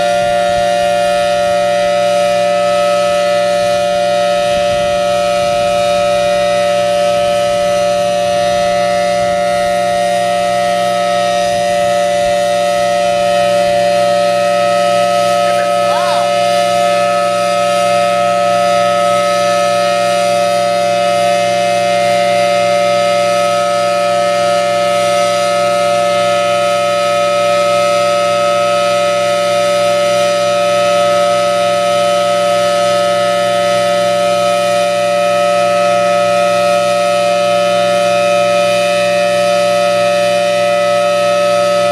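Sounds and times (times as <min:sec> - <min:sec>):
warning siren two-tone chord: 0:00.0 - 0:41.9.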